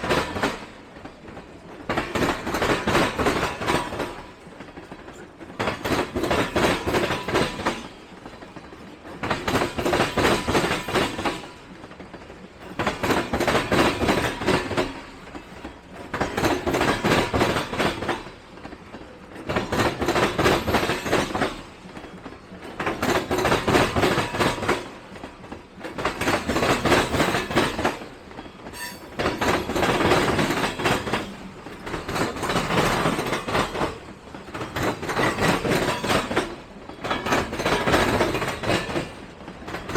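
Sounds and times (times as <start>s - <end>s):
train rolling: 0.0s - 39.9s
train wheels clattering over rail joints: 0.0s - 39.9s.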